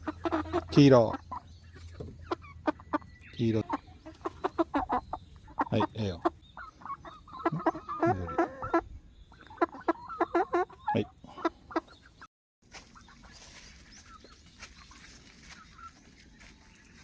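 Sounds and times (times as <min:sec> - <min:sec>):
chicken clucking: 0:00.0 - 0:17.0.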